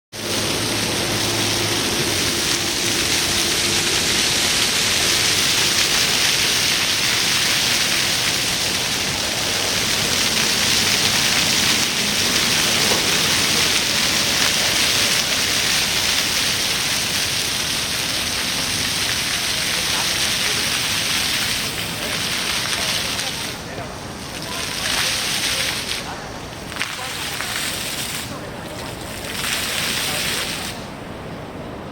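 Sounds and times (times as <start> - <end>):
fountain water splashing: 0.2 - 31.9.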